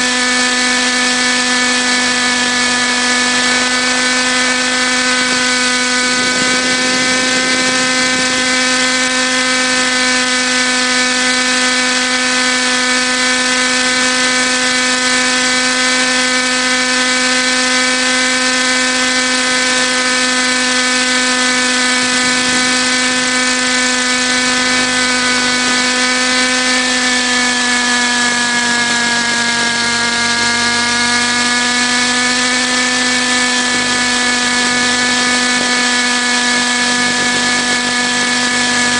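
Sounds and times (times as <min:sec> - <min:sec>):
model helicopter motor whine: 0:00.0 - 0:38.9.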